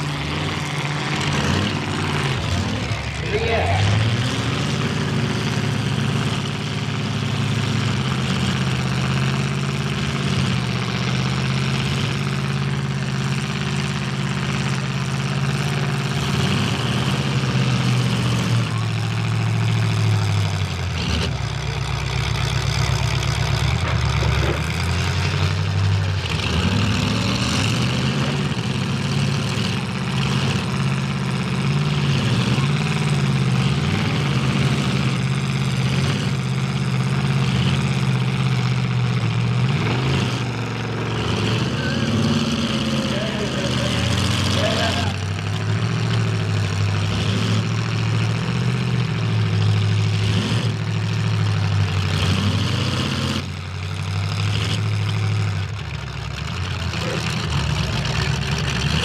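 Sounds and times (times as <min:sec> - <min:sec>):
car engines idling and revving: 0:00.0 - 0:59.0.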